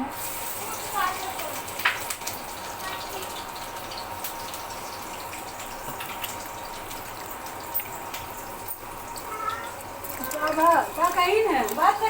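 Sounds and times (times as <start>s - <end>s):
running tap water: 0.0s - 12.0s.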